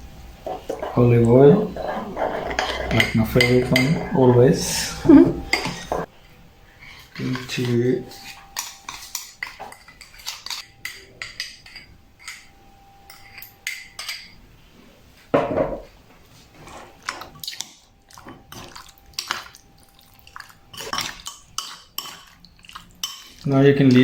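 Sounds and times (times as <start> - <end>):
utensils clinking against a bowl: 0.4 - 14.4, 16.6 - 24.0.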